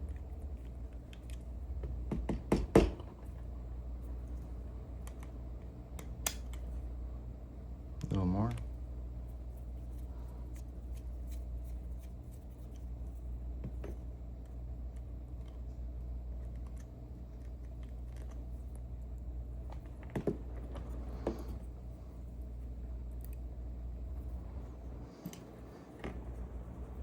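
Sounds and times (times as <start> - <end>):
low hum: 3.0 - 27.0.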